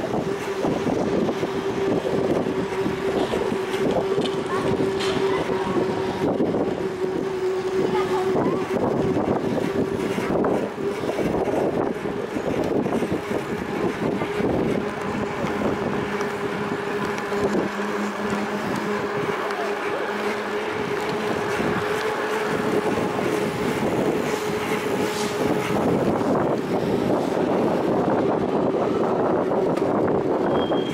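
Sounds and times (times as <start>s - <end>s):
lower hum: 0.0s - 30.2s
steady hum: 0.0s - 30.4s
tyre and road noise: 0.0s - 30.9s
wind on microphone: 0.0s - 30.9s.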